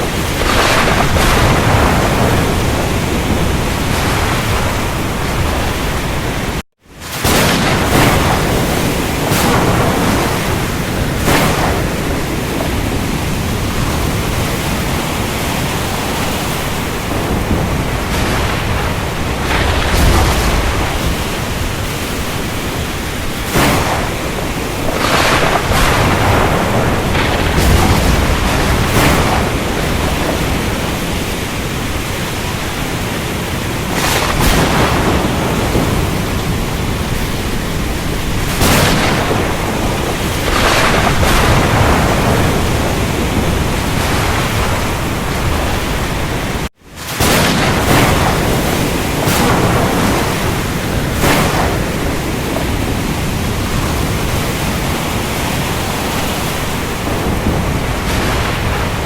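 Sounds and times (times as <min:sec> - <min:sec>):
heavy rain: 0:00.0 - 0:59.0
surf: 0:00.0 - 0:59.0
thunder: 0:00.0 - 0:59.0.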